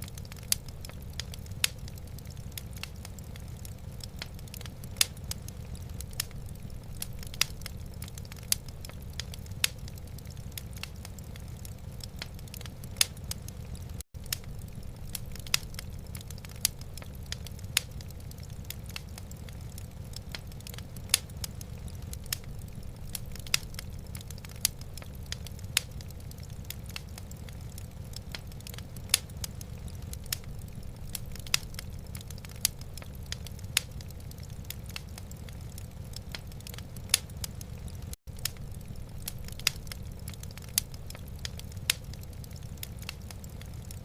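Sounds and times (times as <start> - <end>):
sharp pops and snaps: 0.0 - 44.0
wood fire crackling: 0.0 - 44.0.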